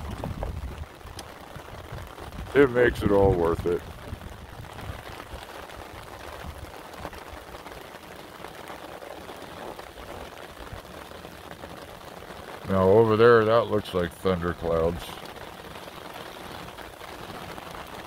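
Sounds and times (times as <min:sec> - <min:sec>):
raindrops ticking on an awning: 0:00.0 - 0:18.0
steady rain: 0:00.0 - 0:18.0.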